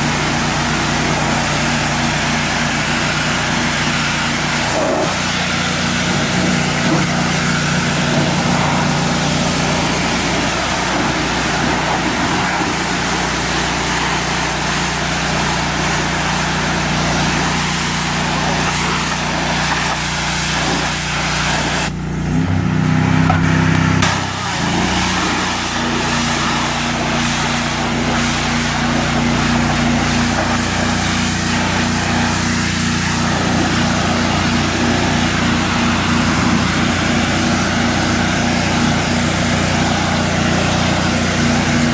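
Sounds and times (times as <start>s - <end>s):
high-pressure water spray hissing: 0.0s - 41.9s
pressure washer engine running: 0.0s - 41.9s.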